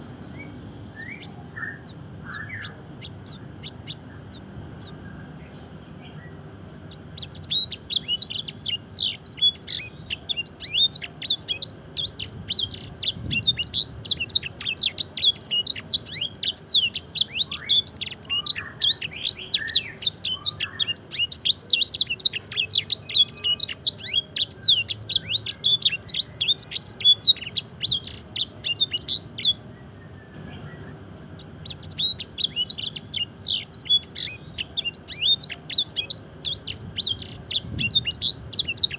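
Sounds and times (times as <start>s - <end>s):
canary singing rapid trills: 0.3s - 38.9s.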